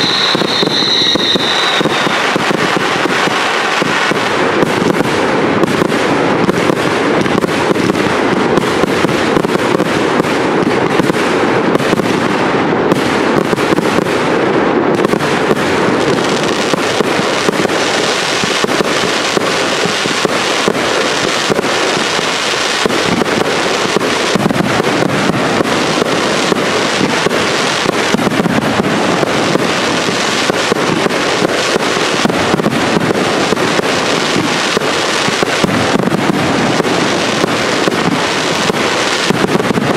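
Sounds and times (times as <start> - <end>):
fireworks launching and bursting: 0.0 - 39.9.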